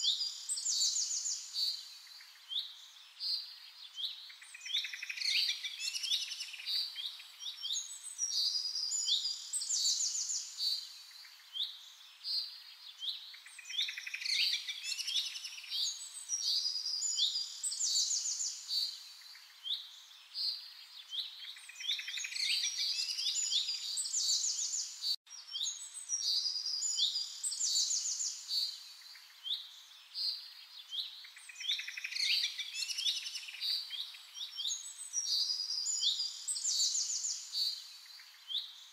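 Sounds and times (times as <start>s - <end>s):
faint hiss: 0.0s - 38.9s
songbirds chirping and singing: 0.0s - 38.9s.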